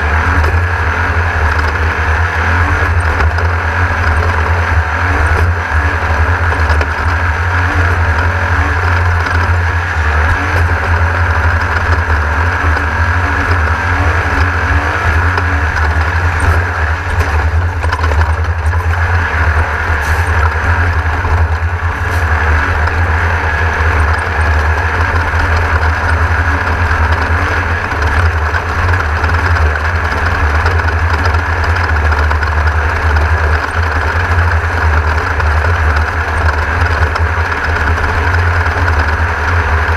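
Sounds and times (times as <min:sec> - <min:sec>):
race car engine rumbling: 0:00.0 - 0:39.9.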